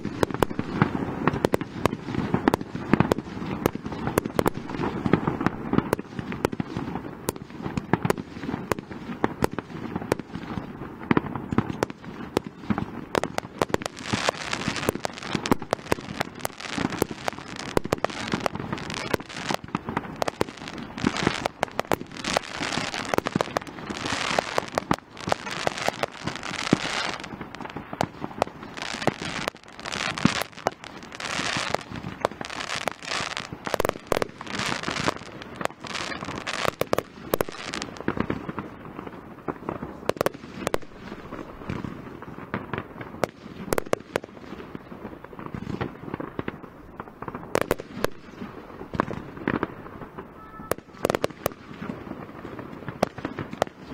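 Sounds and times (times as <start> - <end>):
fireworks bangs: 0.0 - 53.9
fireworks crackling: 0.0 - 53.9.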